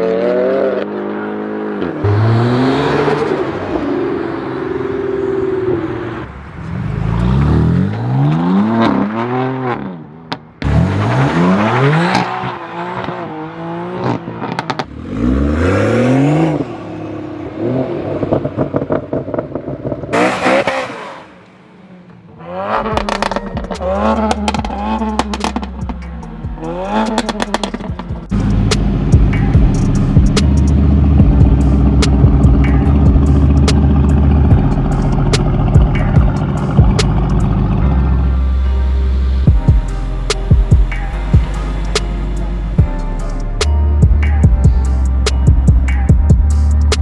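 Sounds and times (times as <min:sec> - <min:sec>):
car engines revving: 0:00.0 - 0:47.0.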